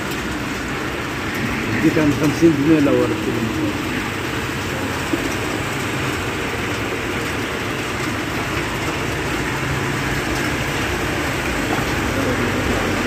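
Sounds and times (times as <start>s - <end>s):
heavy rain on a street: 0.0s - 13.0s.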